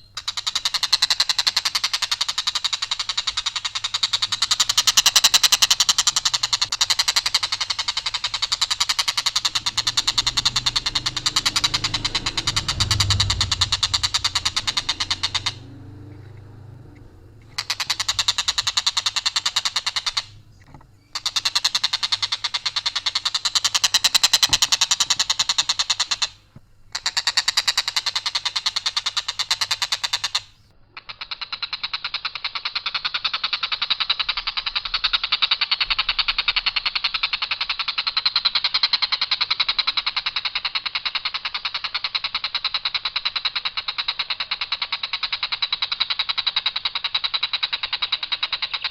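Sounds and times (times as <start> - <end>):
kingfisher rattling call: 0.0 - 48.9.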